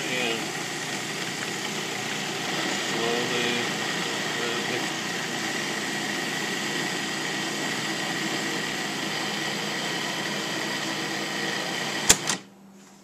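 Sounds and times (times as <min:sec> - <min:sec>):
blade churning tobacco: 0:00.0 - 0:12.3
food processor motor whine: 0:00.0 - 0:12.4.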